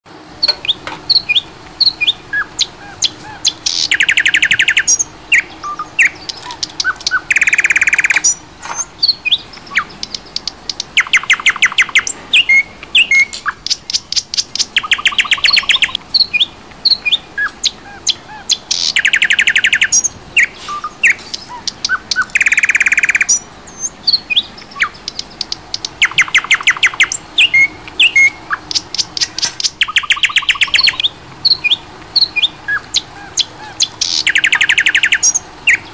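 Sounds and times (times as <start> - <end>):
birds chirping and whistling: 0.2 - 35.9.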